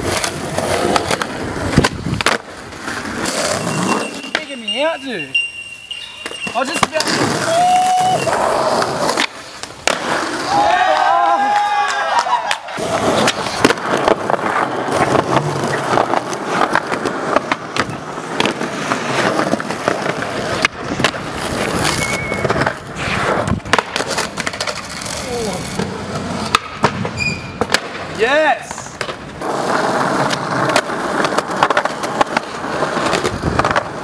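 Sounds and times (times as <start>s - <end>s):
skateboard clacks and slaps: 0.0s - 4.5s, 6.2s - 34.0s
skateboard wheels rolling on concrete: 0.0s - 34.0s.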